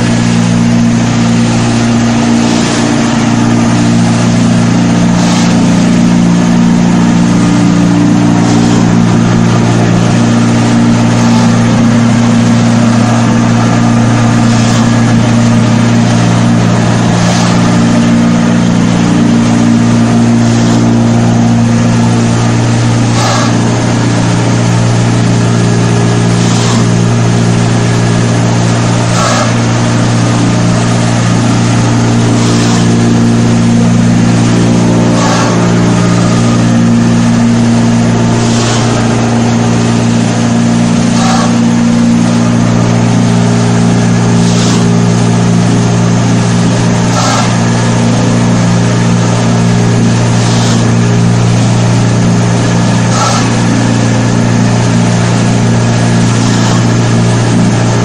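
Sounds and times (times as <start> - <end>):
machine motor hum: 0.0 - 58.0.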